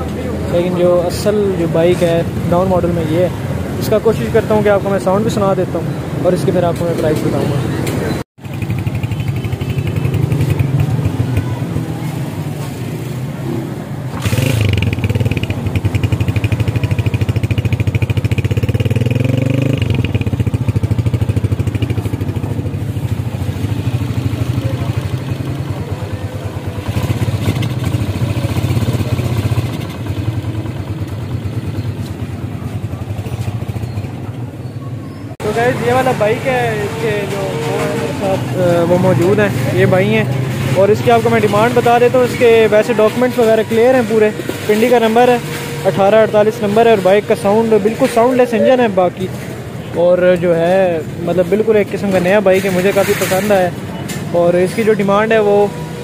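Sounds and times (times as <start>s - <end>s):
motorcycle engine revving: 0.5s - 56.0s.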